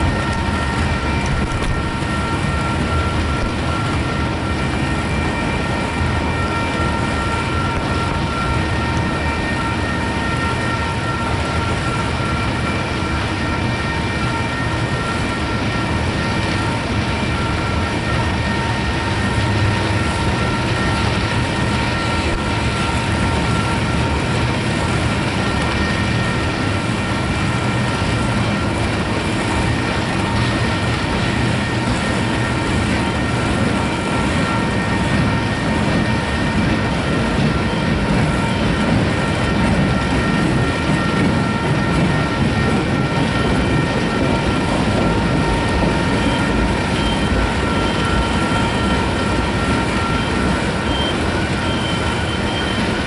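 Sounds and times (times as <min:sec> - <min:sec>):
high-pitched ringing tones: 0:00.0 - 0:53.0
train wheels rumbling on rail: 0:00.0 - 0:53.0.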